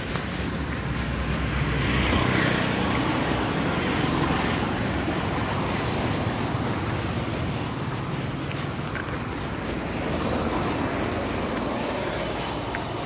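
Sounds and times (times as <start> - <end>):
auto-rickshaw passing: 0.0 - 13.0
motorcycle passing: 0.0 - 13.0.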